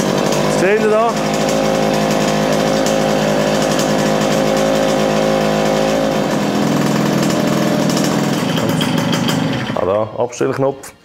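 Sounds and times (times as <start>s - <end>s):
moped engine idling: 0.0s - 10.1s.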